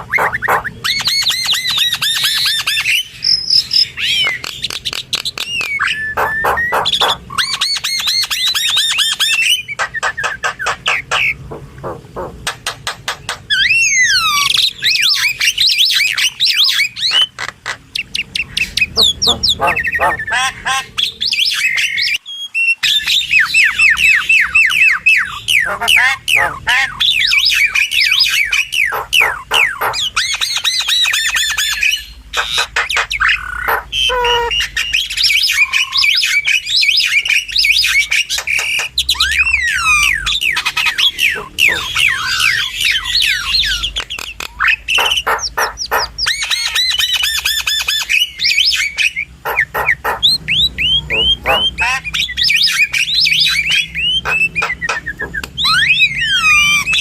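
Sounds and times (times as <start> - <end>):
mynas calling: 0.0 - 57.0.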